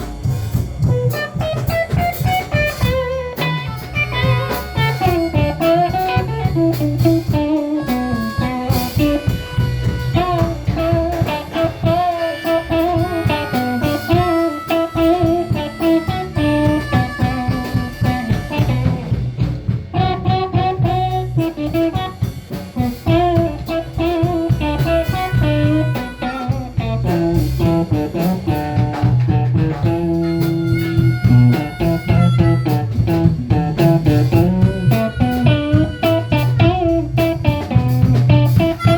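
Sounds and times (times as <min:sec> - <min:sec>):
blues band playing: 0:00.0 - 0:38.9
lead guitar with bent notes: 0:00.0 - 0:38.9.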